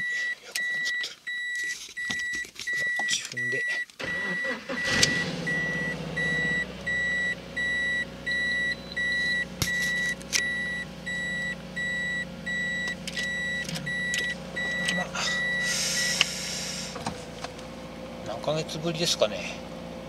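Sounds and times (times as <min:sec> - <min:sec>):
warning chime beeping: 0:00.0 - 0:16.2
car engine cranking and idling: 0:00.0 - 0:20.0.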